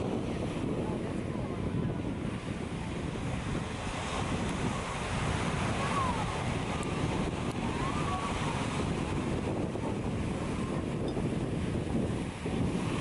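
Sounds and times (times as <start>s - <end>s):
ocean surf breaking: 0.0s - 13.0s
wind noise on microphone: 0.0s - 13.0s.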